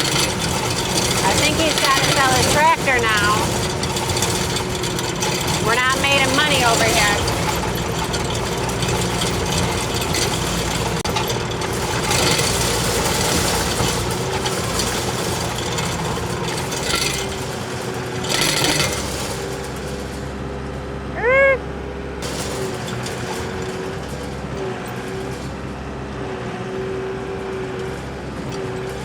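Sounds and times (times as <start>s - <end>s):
diesel engine running: 0.0s - 21.1s, 21.7s - 29.0s.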